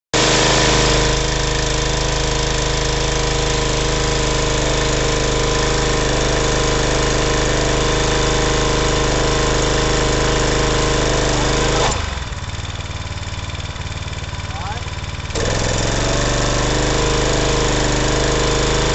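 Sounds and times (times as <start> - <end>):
hissing water spray: 0.2 - 12.3, 15.4 - 18.9
pressure washer engine running: 0.2 - 18.9.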